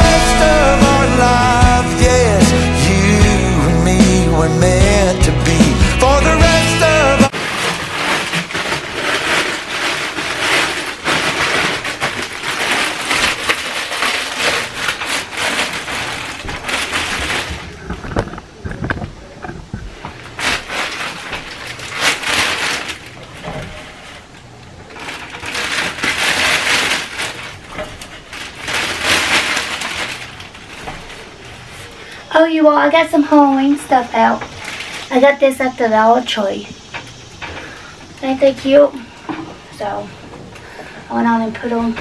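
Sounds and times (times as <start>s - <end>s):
plastic bag rustling: 0.0s - 42.0s.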